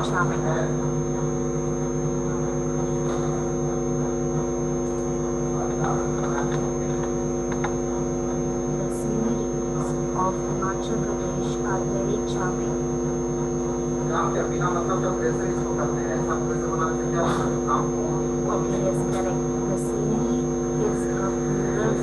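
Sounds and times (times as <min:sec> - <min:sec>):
electrical mains hum: 0:00.0 - 0:22.0
thin high whine: 0:00.0 - 0:22.0.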